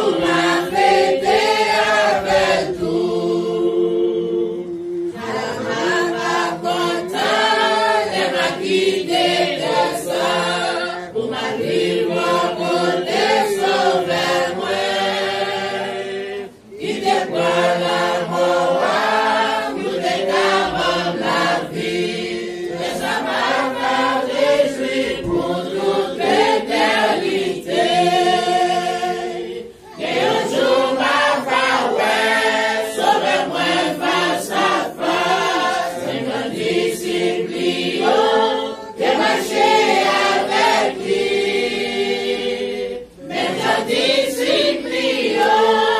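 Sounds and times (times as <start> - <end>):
congregation singing a worship song: 0.0 - 45.9.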